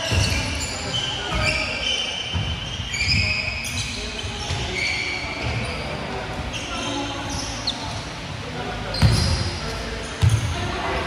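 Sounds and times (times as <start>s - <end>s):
sneakers squeaking on gym floor: 0.0s - 8.2s, 8.8s - 11.0s.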